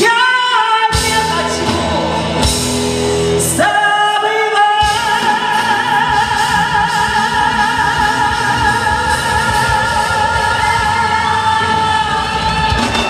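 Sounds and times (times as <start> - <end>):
live band accompaniment: 0.0 - 13.0.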